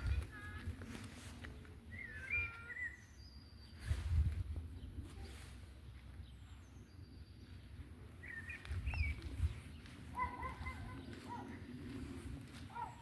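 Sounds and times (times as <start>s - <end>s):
birds chirping: 1.1s - 4.0s, 4.6s - 13.0s.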